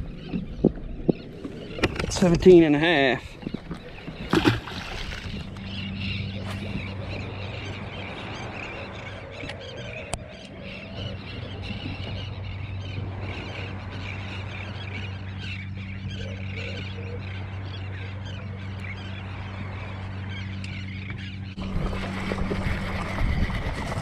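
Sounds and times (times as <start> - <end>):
birds calling: 0.0 - 24.0
steady low hum: 0.0 - 24.0.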